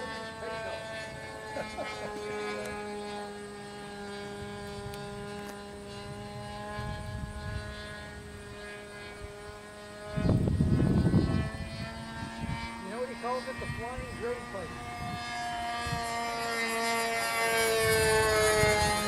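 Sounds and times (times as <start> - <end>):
model airplane engine droning: 0.0 - 19.0.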